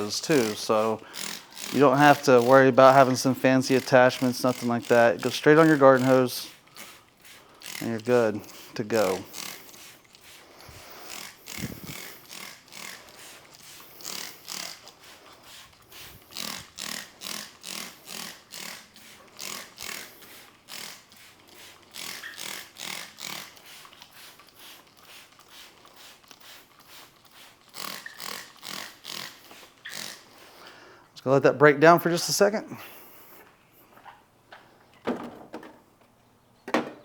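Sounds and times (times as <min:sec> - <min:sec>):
spray bottle spritzing: 0:00.0 - 0:30.6.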